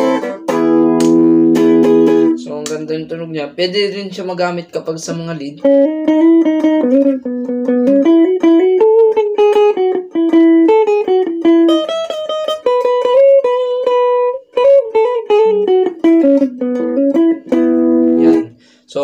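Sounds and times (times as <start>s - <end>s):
electric guitar lead melody: 0.0s - 18.9s.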